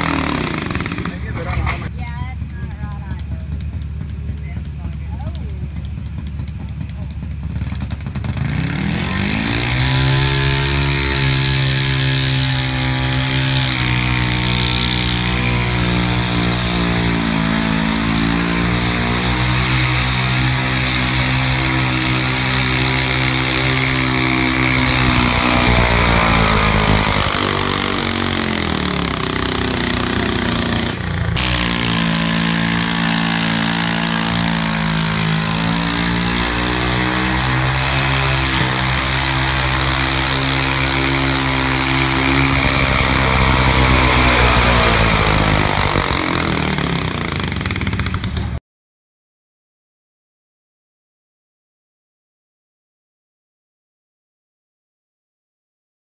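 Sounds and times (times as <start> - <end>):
tractor engine running hard: 0.0 - 48.6.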